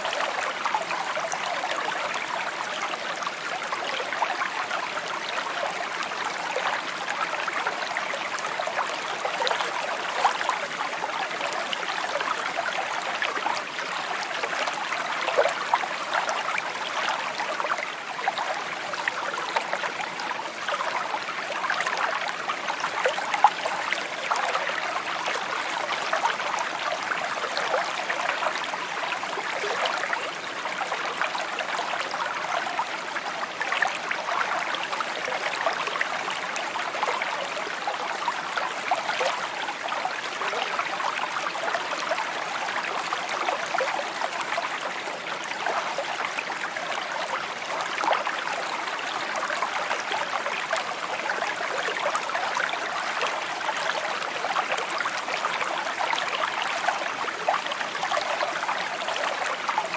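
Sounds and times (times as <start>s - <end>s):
brook water babbling: 0.0s - 59.9s.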